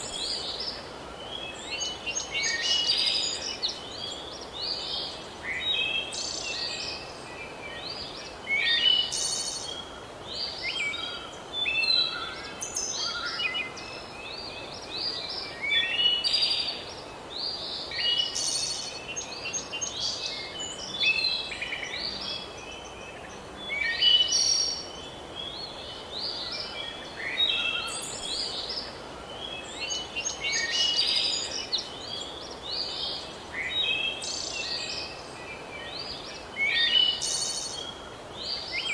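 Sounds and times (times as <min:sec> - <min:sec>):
faint steady hiss: 0:00.0 - 0:38.9
songbirds chirping and singing: 0:00.0 - 0:38.9.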